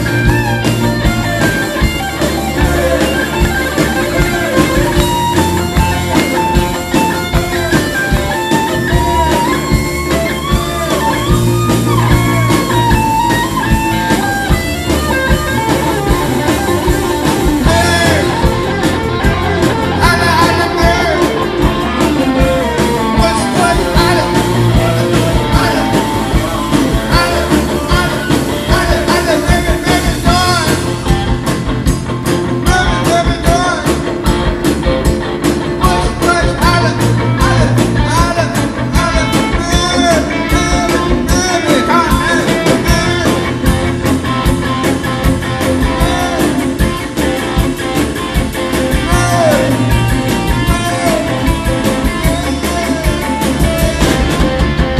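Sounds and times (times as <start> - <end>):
man singing lead: 0.0 - 31.3, 32.6 - 34.1, 35.7 - 44.2, 45.5 - 47.7, 48.6 - 54.7
bass guitar: 0.0 - 54.9
drum kit: 0.0 - 54.9
electric guitar: 0.0 - 54.9.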